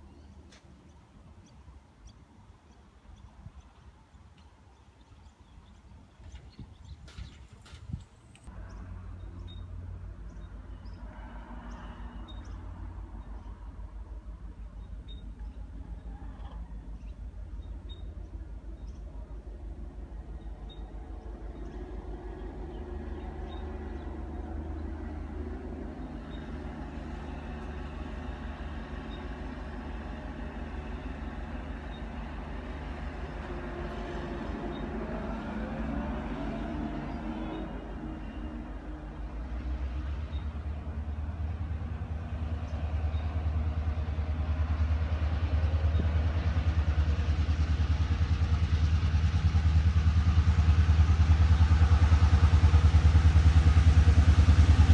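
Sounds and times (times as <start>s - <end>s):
locomotive engine drone: 8.2s - 54.9s.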